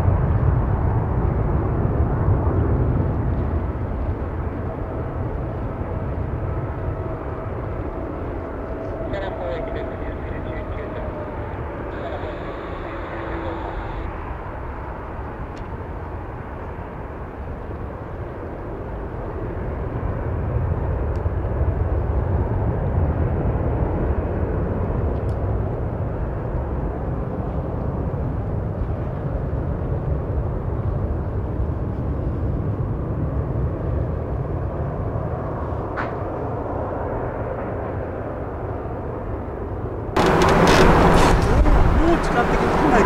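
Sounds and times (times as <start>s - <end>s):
jet engines deep rumble: 0.0s - 43.0s.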